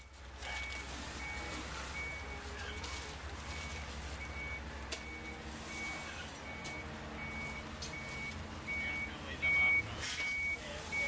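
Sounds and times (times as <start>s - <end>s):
reversing alarm beeping: 0.0s - 11.0s.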